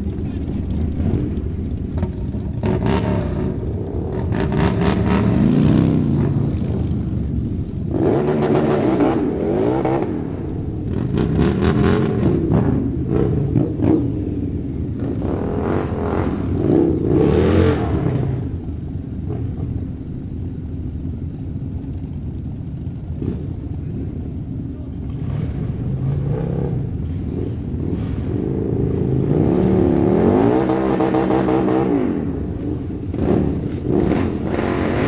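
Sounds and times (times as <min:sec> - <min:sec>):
motorcycles revving: 0:00.0 - 0:35.0.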